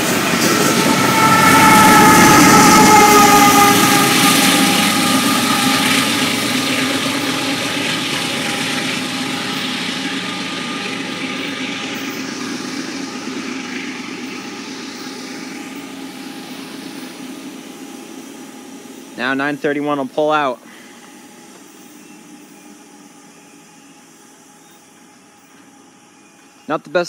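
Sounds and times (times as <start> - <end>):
diesel train engine hum: 0.0 - 27.0
train rail noise: 0.0 - 27.0.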